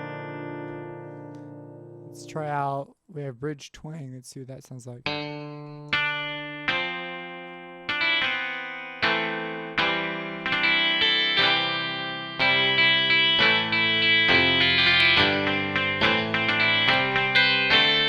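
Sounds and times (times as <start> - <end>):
electric guitar notes picked: 0.0 - 2.5, 5.0 - 18.0.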